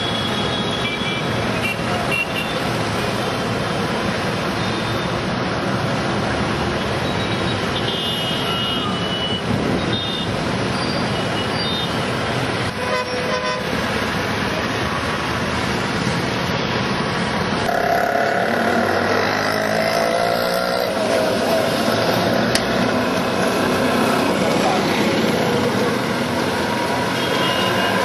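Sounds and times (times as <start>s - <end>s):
city traffic: 0.0s - 28.0s.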